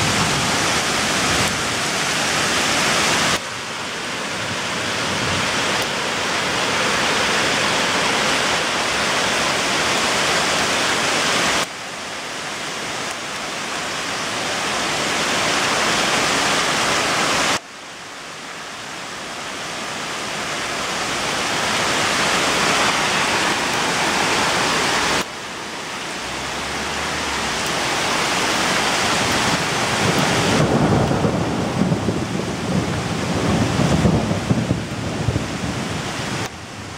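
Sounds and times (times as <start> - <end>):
heavy rain and hail: 0.0 - 36.9.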